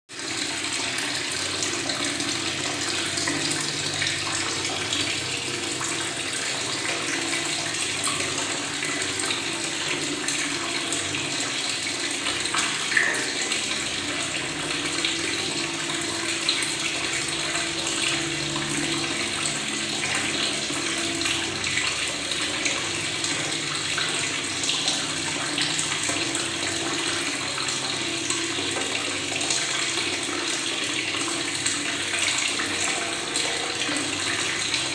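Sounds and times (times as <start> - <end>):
tap water running and gurgling: 0.1 - 34.9.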